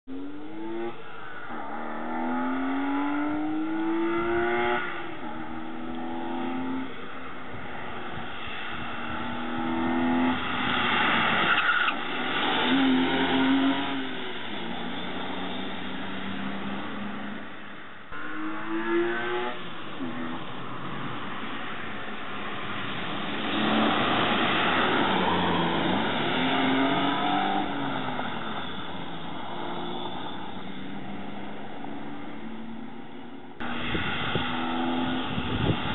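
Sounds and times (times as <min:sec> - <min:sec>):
car engine revving: 0:00.1 - 0:35.9.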